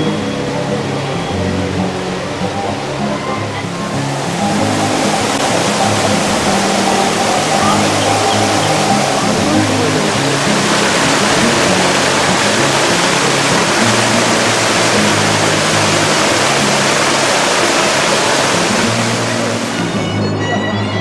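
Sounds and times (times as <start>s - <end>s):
background music: 0.0s - 21.0s
waterfall rushing: 0.0s - 21.0s.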